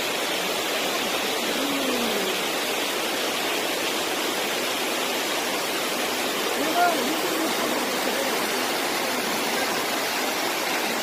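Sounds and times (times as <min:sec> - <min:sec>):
stream rushing white water: 0:00.0 - 0:11.0.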